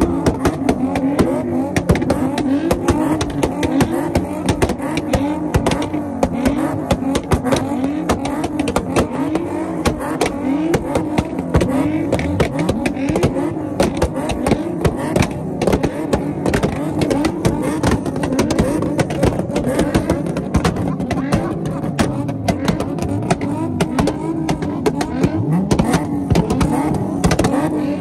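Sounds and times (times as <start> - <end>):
car engine revving: 0.0 - 28.0
exhaust pops and backfires: 0.0 - 28.0.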